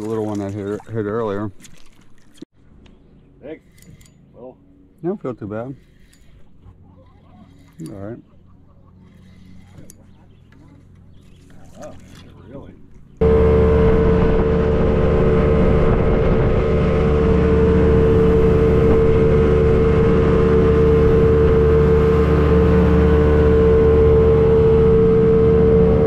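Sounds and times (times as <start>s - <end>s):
jet boat engine rumble and whine: 2.9s - 26.0s.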